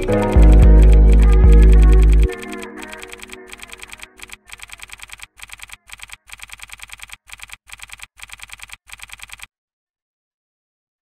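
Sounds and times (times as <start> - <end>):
typewriter keystroke clicks: 0.0 - 9.5.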